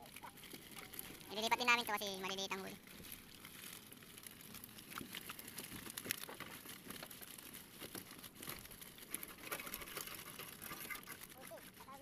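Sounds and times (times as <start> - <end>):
fish flapping and slapping: 0.0 - 2.0, 2.8 - 12.0
netting rustling: 0.0 - 12.0.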